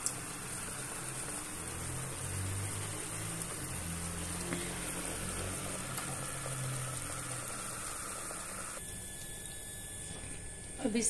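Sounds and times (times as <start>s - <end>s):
kitchen hum with hiss: 0.0s - 11.0s.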